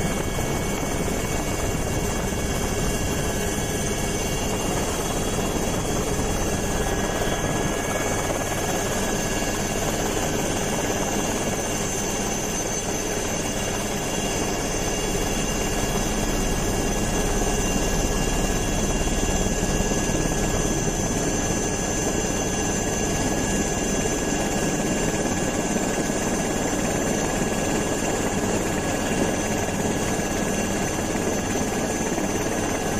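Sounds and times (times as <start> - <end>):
helicopter engine and rotor: 0.0 - 32.9.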